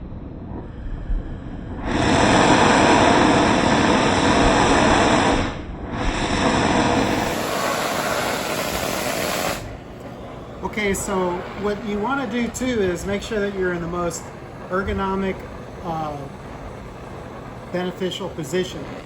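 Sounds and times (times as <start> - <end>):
cutting torch hissing: 1.8 - 19.0.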